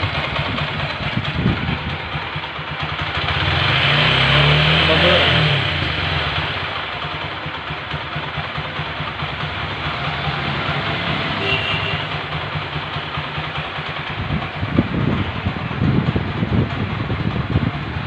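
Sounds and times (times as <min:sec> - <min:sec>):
motorcycle engine idling: 0:00.0 - 0:03.9, 0:04.8 - 0:18.0.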